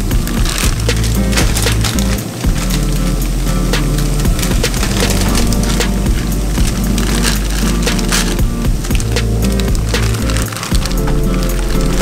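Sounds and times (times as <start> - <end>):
background music: 0.0 - 12.0
plastic bag crinkling: 0.0 - 12.0.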